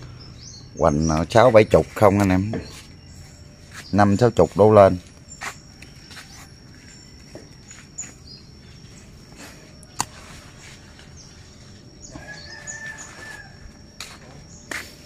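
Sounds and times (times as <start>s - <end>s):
bird chirps: 0.0s - 15.0s
steady high-pitched tone: 0.0s - 15.0s.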